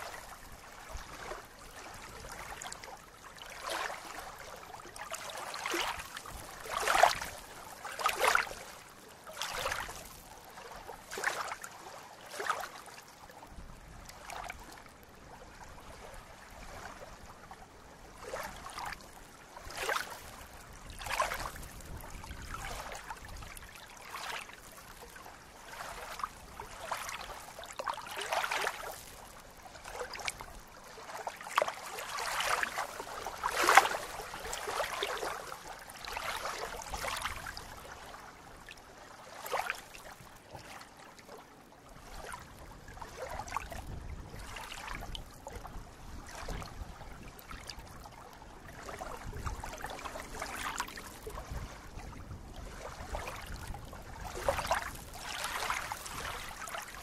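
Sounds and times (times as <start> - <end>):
small waves lapping on shore: 0.0 - 57.0.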